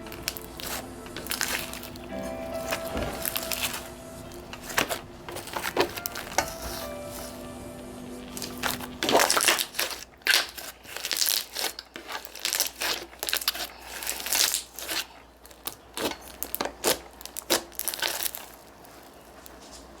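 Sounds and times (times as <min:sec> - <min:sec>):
slime crackling and popping: 0:00.0 - 0:07.3, 0:08.3 - 0:19.6.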